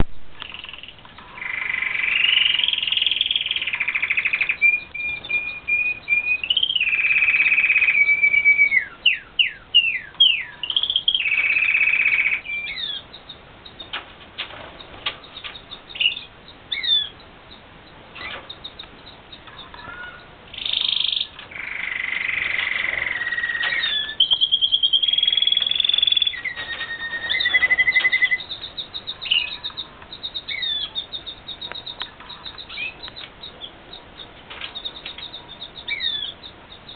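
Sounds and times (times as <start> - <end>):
canaries singing trills: 0.0 - 36.9.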